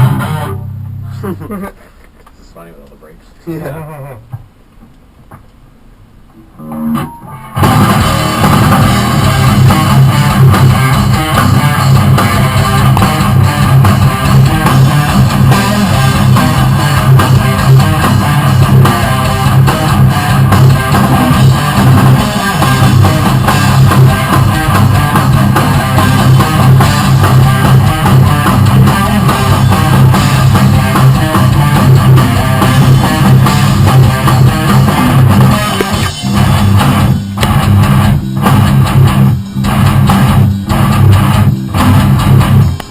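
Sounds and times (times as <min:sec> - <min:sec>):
loud rock music: 0:00.0 - 0:01.0, 0:06.7 - 0:42.9.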